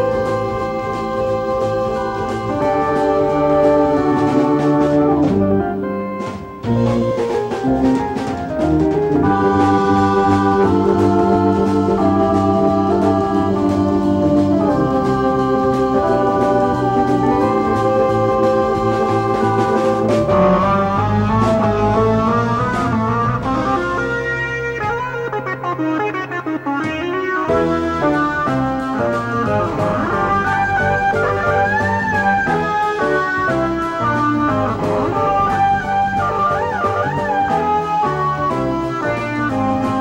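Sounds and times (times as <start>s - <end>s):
drums: 0.0s - 40.0s
organ chords: 0.0s - 40.0s.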